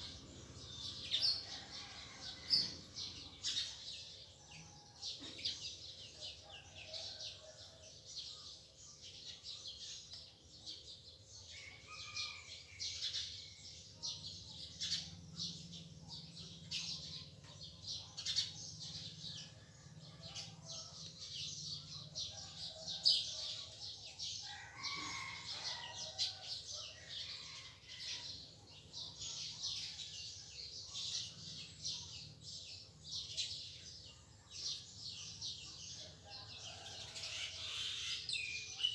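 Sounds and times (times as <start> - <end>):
small birds chirping: 0.0 - 7.2, 13.1 - 38.9.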